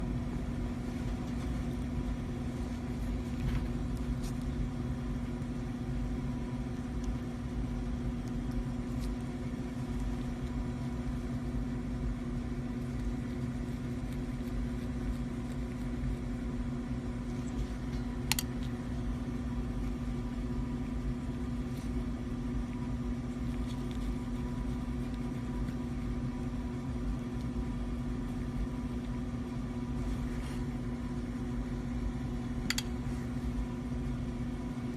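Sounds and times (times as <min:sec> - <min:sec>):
steady machine hum: 0:00.0 - 0:34.9.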